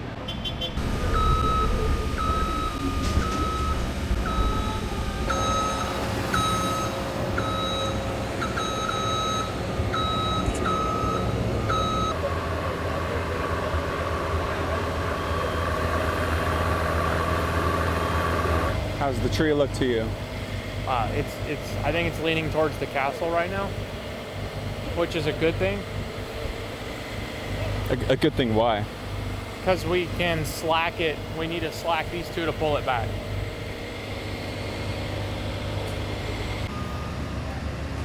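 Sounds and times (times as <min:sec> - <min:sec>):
vehicle backup alarm beeping: 0:00.3 - 0:23.5, 0:29.3 - 0:37.9
vehicle engine running: 0:00.7 - 0:38.0.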